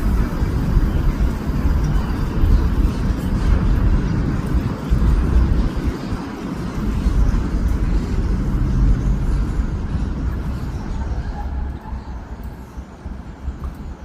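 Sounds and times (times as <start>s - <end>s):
passing city traffic rumble: 0.0s - 14.0s.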